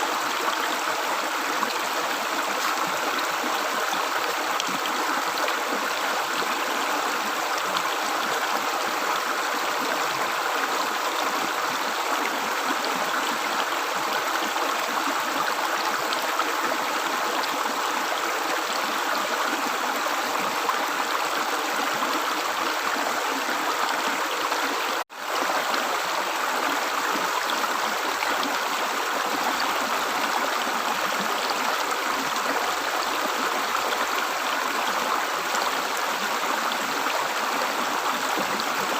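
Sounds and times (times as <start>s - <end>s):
stream water gurgling: 0.0s - 38.9s.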